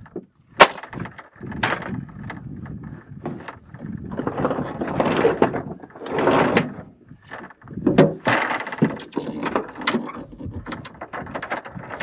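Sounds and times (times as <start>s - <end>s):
clicks and knocks on metal: 0.0s - 12.0s
scraping against metal panels: 0.9s - 12.0s.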